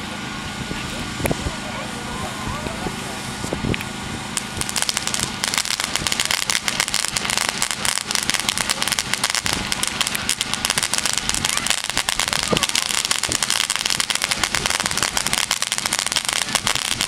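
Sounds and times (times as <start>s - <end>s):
firework fountain hissing and crackling: 0.0s - 17.0s.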